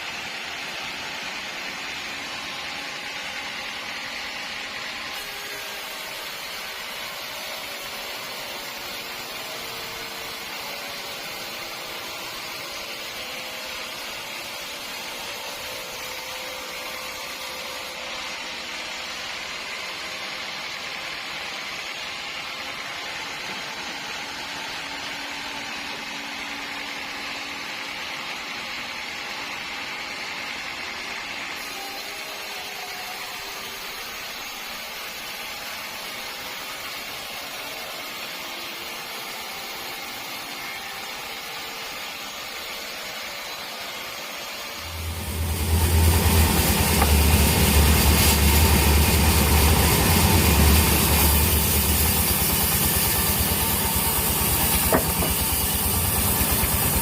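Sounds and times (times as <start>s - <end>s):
sawmill machinery hissing: 0.0s - 25.2s, 31.5s - 57.0s.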